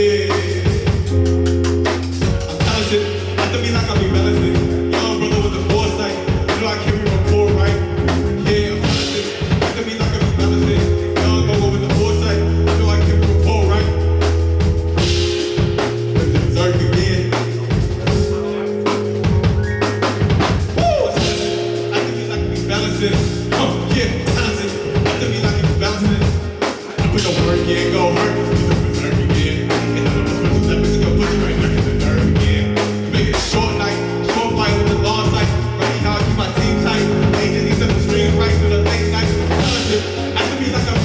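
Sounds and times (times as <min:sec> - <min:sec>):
bass line: 0:00.0 - 0:41.0
drum kit: 0:00.0 - 0:41.0
live band playing: 0:00.0 - 0:41.0.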